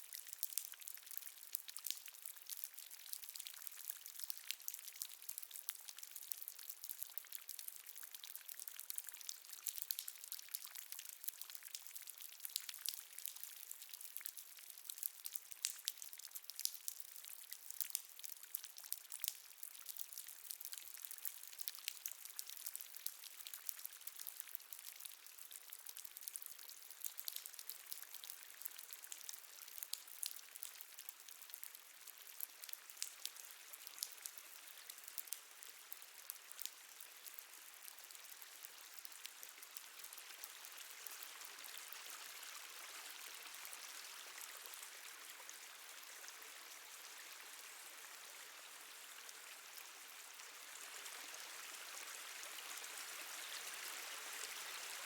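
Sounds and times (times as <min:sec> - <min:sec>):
water dripping in a cave: 0:00.0 - 0:55.0.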